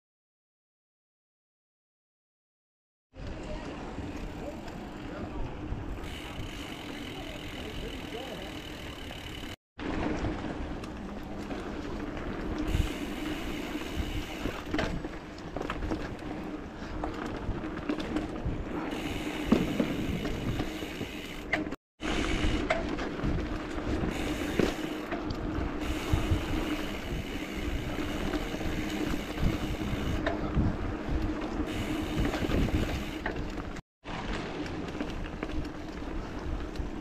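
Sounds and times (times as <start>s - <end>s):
bike tyres and drivetrain rolling: 3.2s - 37.0s
bike rattles and knocks: 6.0s - 37.0s.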